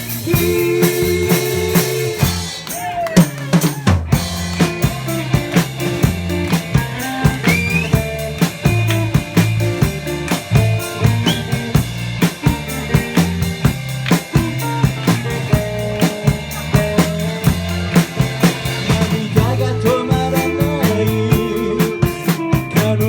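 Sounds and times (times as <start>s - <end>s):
drum kit beat: 0.0s - 23.0s
rock band playing: 0.0s - 23.0s.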